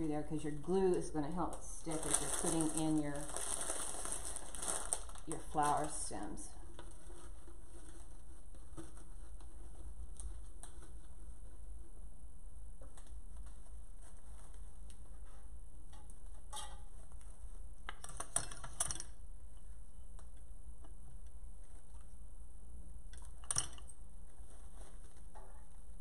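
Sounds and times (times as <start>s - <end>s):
artificial flower stems rustling: 0.0s - 12.1s, 12.8s - 22.2s, 23.2s - 26.0s
steady low hum: 5.1s - 26.0s.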